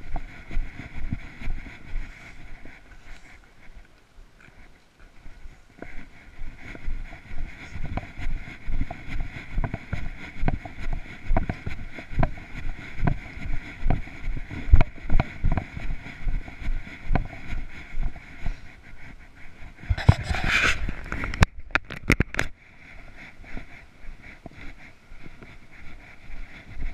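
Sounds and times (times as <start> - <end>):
footsteps on paved path: 0.0 - 26.9.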